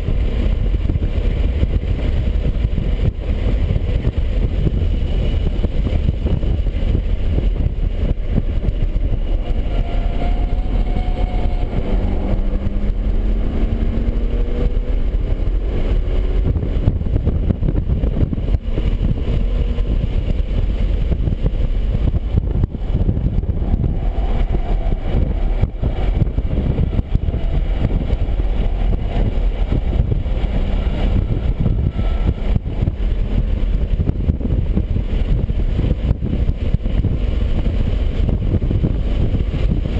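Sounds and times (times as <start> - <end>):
car engine accelerating: 0.0 - 39.9
road rumble: 0.0 - 39.9
wind noise: 0.0 - 39.9.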